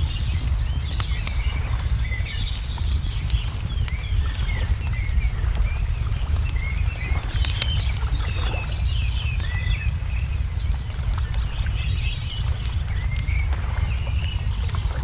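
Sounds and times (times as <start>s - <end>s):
small birds chirping: 0.0s - 15.0s
wood fire crackling: 0.0s - 15.0s.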